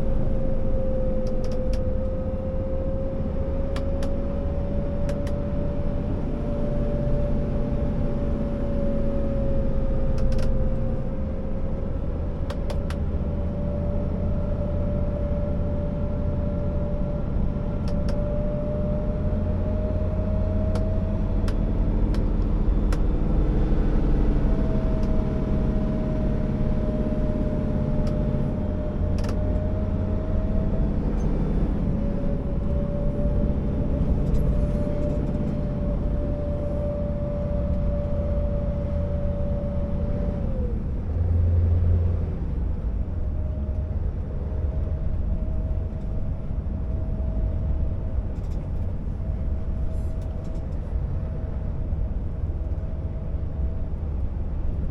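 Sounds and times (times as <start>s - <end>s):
diesel truck engine rumbling: 0.0s - 54.9s
engine whine: 0.0s - 54.9s.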